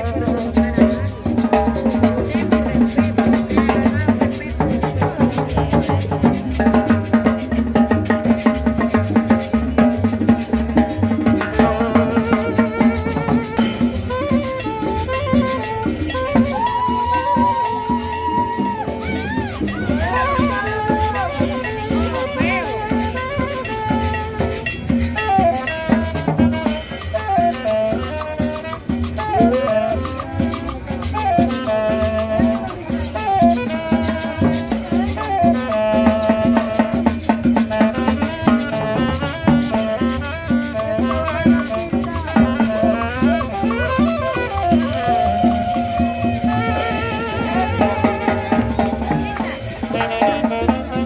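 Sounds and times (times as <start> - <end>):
latin dance music: 0.0 - 51.0.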